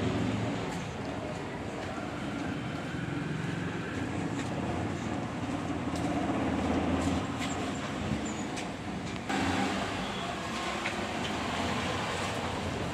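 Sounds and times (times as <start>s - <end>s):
street traffic noise: 0.0s - 12.9s.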